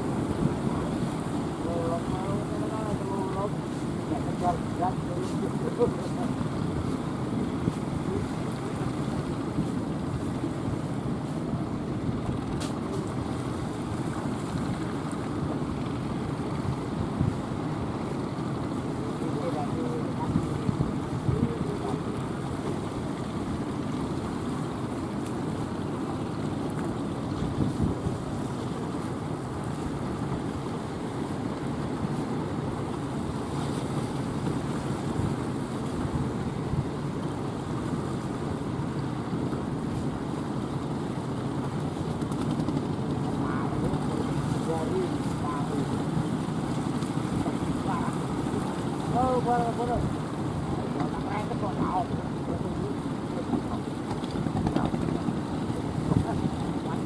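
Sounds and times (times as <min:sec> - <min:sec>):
boat motors running: 0:00.0 - 0:57.0
rough surf: 0:00.0 - 0:57.0
wind buffeting microphone: 0:00.0 - 0:57.0
wind rumble: 0:00.0 - 0:57.0.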